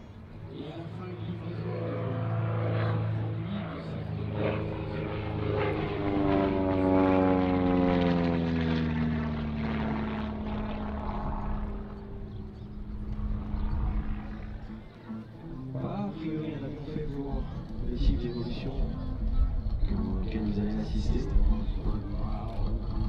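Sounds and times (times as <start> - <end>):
propeller plane flying past: 0.0 - 23.0.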